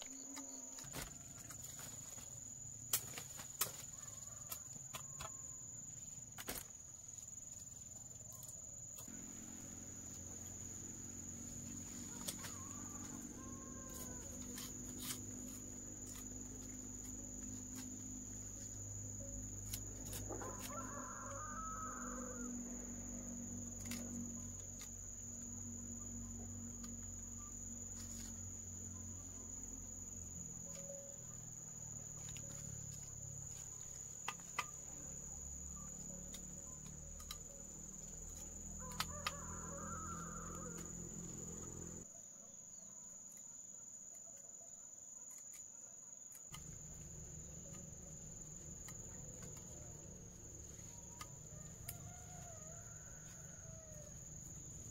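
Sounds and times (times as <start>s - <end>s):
insects chirring: 0.0s - 54.9s.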